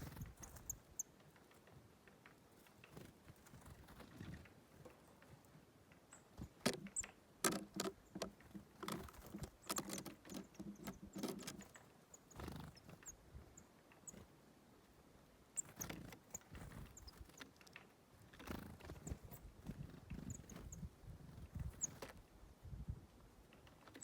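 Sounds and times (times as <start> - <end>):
birds pecking at seed heads: 0.0 - 14.4, 15.6 - 22.3.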